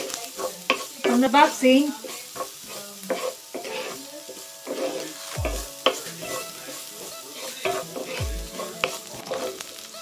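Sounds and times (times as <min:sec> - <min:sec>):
food sizzling in hot oil: 0:00.0 - 0:10.0
wooden spoon scraping pan: 0:00.0 - 0:10.0.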